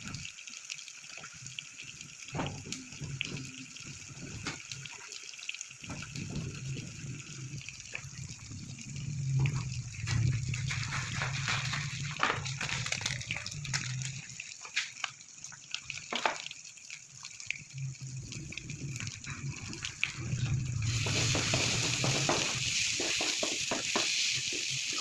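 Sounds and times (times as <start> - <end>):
frying sizzle: 0.0 - 25.0
water splashing and pouring: 0.0 - 25.0.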